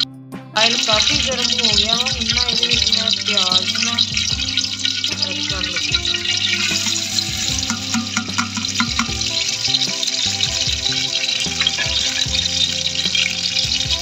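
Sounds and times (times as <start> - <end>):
background music: 0.0 - 14.0
onions sizzling in hot oil: 0.6 - 14.0.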